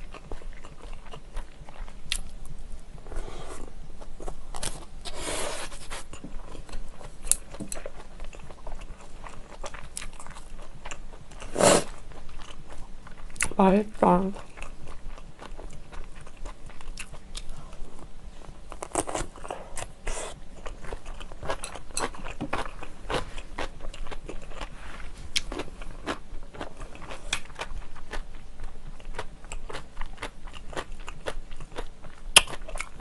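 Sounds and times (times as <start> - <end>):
crunching and wet chewing: 0.0 - 13.6, 14.3 - 18.1, 18.7 - 33.0.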